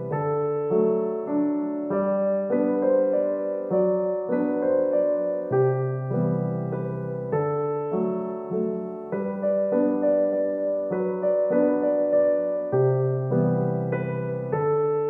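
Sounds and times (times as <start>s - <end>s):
slow keyboard melody: 0.0s - 15.0s.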